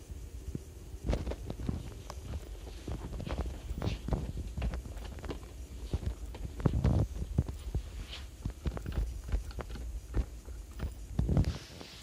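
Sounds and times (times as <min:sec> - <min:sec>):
footsteps: 0:01.0 - 0:12.0.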